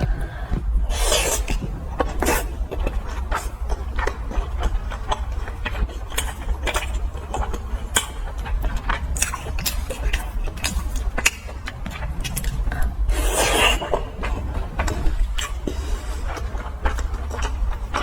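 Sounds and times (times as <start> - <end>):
crisp chewing crunches: 0.0 - 18.0
low steady rumble: 0.0 - 18.0.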